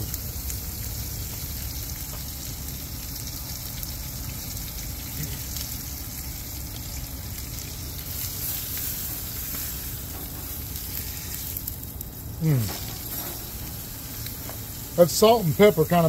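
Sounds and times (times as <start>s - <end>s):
steak sizzling in frying pan: 0.0s - 16.0s.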